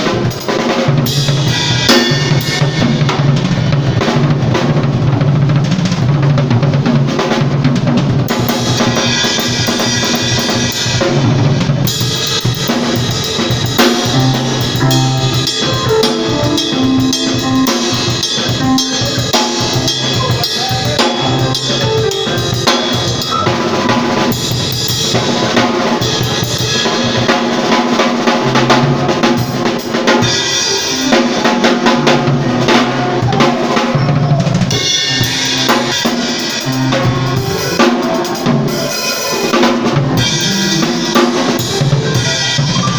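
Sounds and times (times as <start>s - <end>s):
band playing: 0.0s - 6.0s, 8.1s - 42.9s
drum kit beating: 0.0s - 42.9s.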